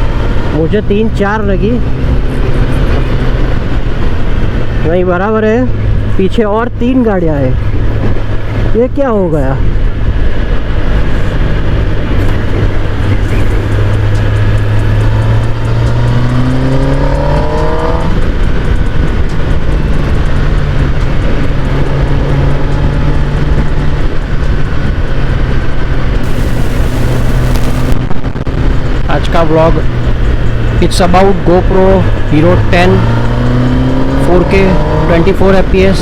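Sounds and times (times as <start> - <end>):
motorcycle engine running: 0.0 - 36.0
wind rush on microphone: 0.0 - 36.0.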